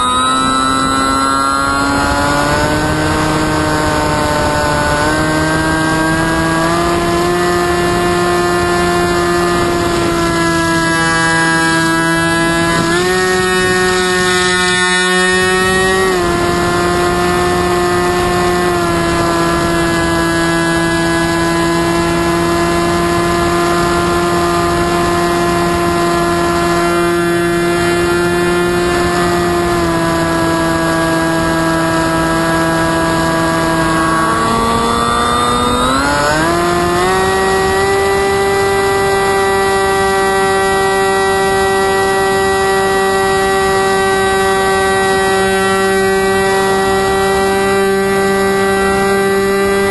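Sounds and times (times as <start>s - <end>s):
motor and propeller droning whine: 0.0s - 49.9s
wind rush: 0.0s - 49.9s.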